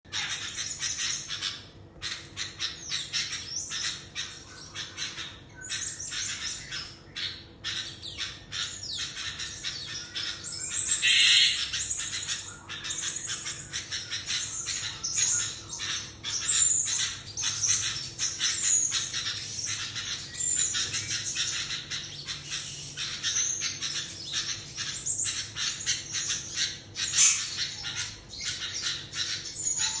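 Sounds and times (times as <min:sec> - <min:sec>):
bird calling rapidly: 0:00.1 - 0:30.0.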